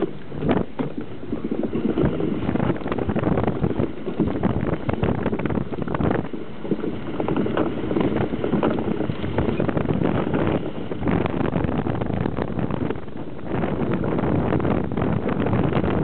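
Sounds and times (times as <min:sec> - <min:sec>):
iceboat rumble: 0:00.0 - 0:16.0
wind buffeting microphone: 0:00.0 - 0:16.0.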